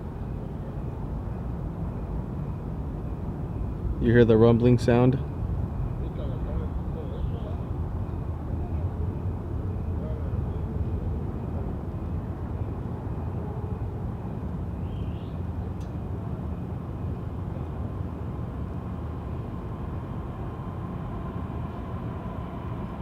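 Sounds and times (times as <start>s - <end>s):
faint high hum: 0.0s - 23.0s.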